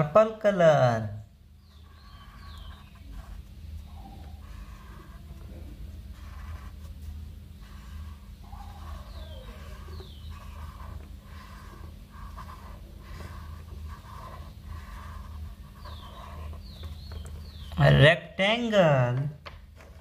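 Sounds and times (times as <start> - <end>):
steady low hum: 0.0 - 20.0
marker scratching on paper: 1.6 - 18.0.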